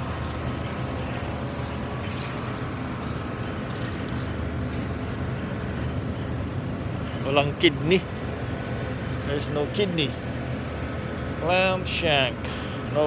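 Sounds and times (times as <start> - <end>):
supermarket background rumble and hiss: 0.0 - 13.0.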